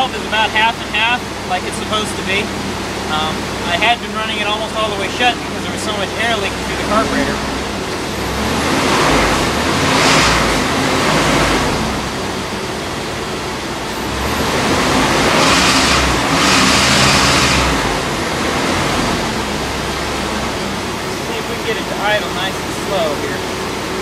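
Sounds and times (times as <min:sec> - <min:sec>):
pickup engine revving: 0:00.0 - 0:24.0.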